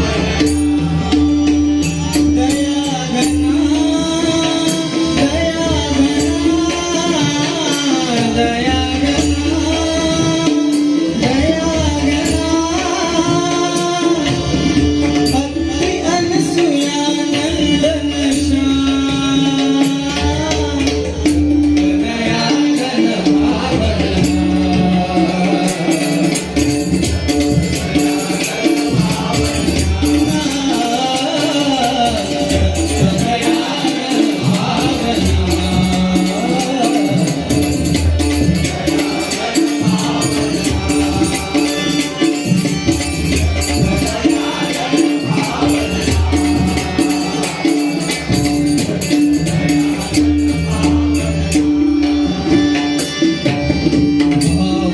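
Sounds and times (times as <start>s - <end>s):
jingling hand percussion: 0.0s - 54.9s.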